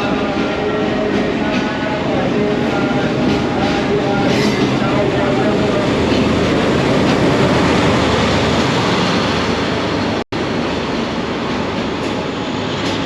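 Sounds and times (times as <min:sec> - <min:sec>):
train rumble and rail noise: 0:00.0 - 0:13.0.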